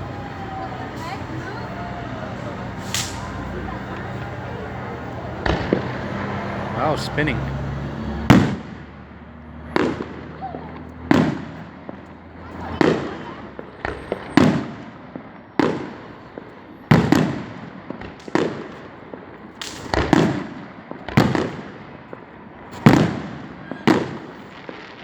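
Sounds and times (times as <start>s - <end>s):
fireworks booming: 0.0s - 25.0s.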